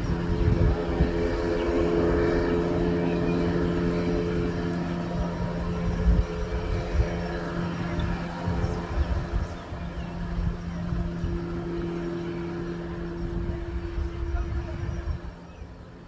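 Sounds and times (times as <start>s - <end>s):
speedboat engine running: 0.0s - 16.0s.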